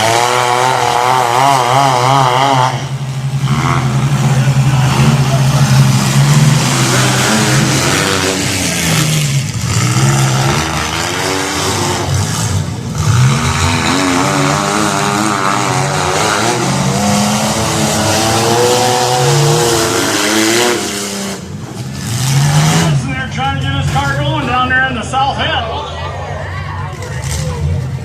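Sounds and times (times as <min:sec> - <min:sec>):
car engines revving hard: 0:00.0 - 0:28.0.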